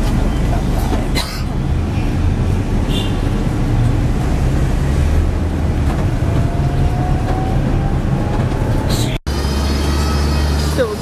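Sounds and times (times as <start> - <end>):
tram low rumble: 0.0 - 11.0.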